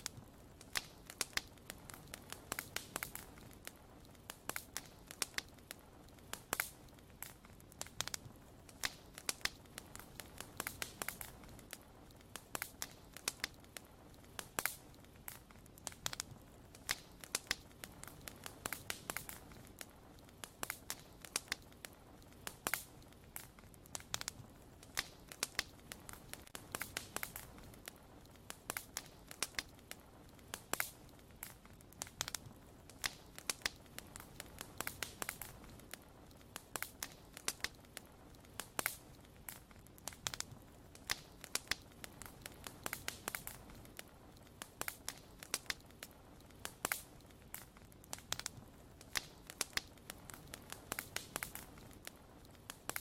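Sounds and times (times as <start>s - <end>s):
bonfire crackling: 0.0s - 53.0s.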